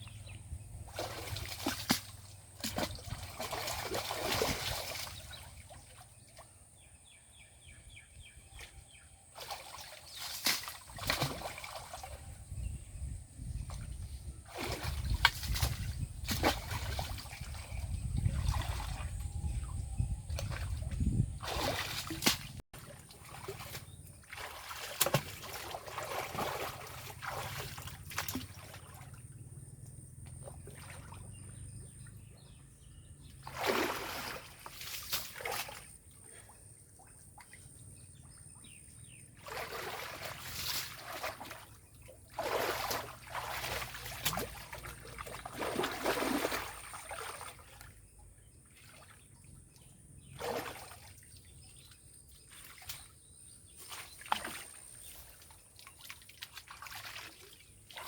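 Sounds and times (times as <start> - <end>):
water splashing and sloshing: 0.0 - 7.1, 8.5 - 58.0.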